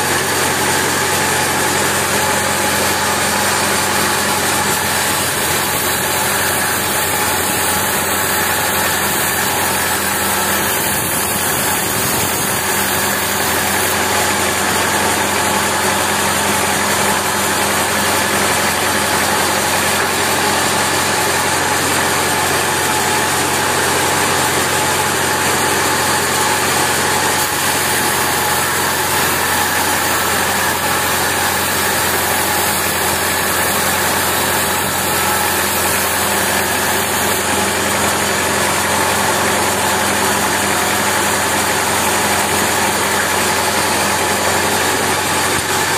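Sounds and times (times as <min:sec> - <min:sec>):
band saw cutting wood: 0:00.0 - 0:45.9.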